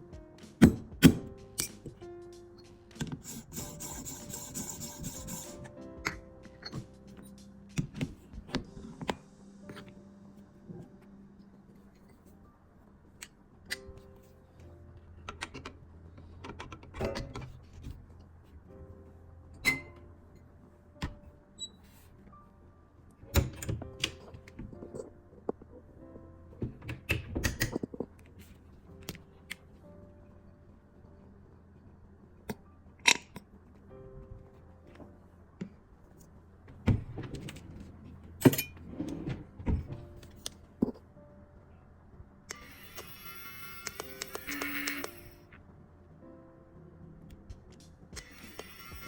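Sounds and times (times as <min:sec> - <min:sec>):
low steady hum: 0:00.7 - 0:43.8.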